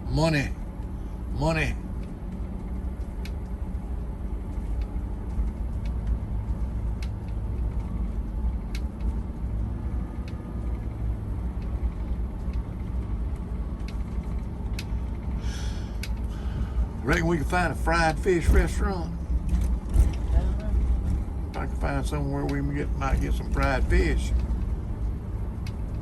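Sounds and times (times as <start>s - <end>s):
engine and road rumble: 0.0s - 26.0s
light clicks and rattles: 1.9s - 26.0s.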